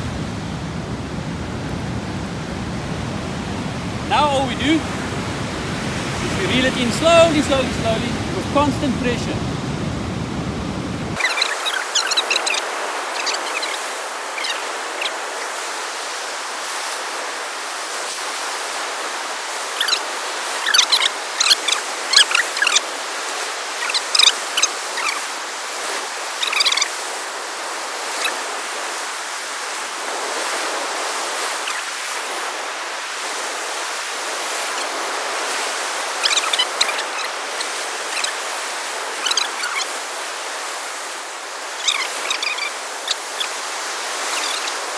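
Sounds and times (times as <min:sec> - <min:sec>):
ocean surf breaking on beach: 0:00.0 - 0:44.9.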